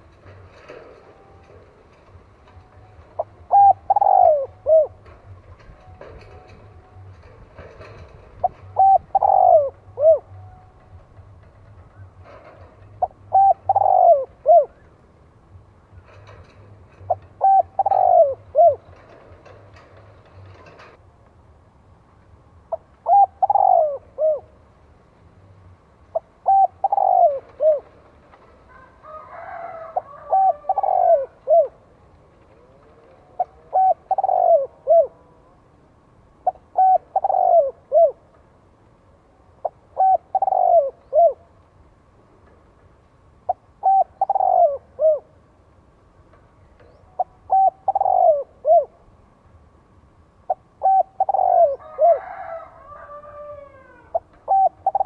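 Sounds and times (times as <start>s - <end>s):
dove cooing: 0.0s - 15.0s, 15.9s - 21.0s, 22.7s - 24.6s, 26.1s - 35.8s, 36.4s - 38.4s, 39.6s - 41.6s, 43.5s - 45.4s, 46.8s - 49.1s, 50.5s - 55.0s.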